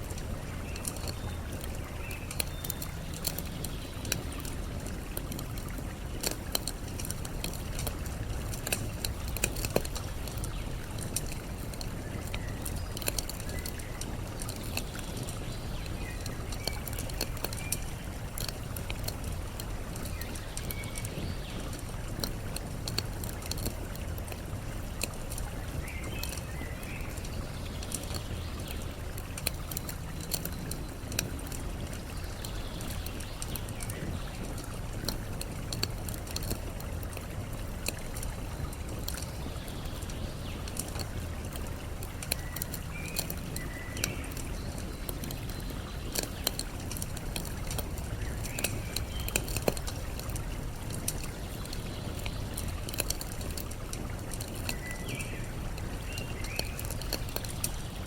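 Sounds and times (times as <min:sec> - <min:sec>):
campfire crackling and popping: 0:00.0 - 0:58.0
flowing water: 0:00.0 - 0:58.0.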